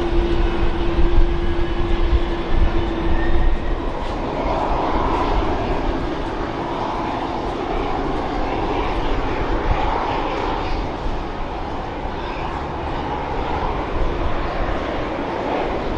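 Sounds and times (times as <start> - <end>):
jet engine rushing noise: 0.0 - 15.9.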